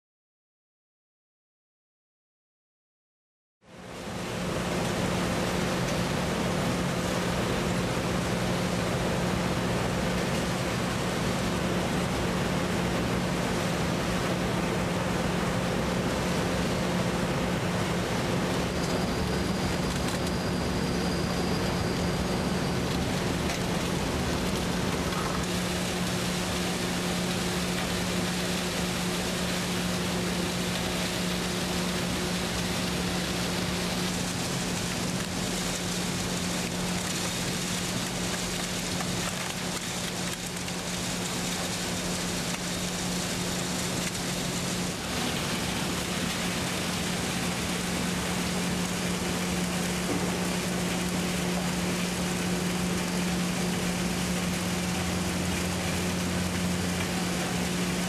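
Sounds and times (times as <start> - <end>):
machinery humming: 3.8 - 58.0.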